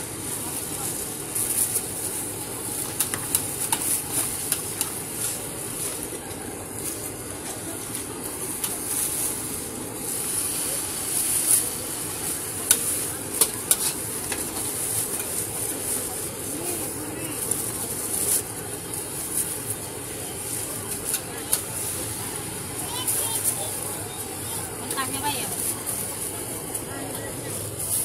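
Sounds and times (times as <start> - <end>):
noodles sizzling in a wok: 0.0 - 28.0.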